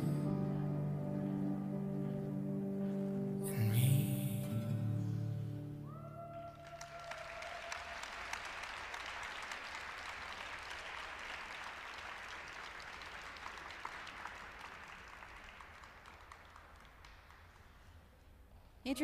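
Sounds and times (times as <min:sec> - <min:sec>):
audience applauding: 0:00.0 - 0:03.4, 0:05.9 - 0:18.1.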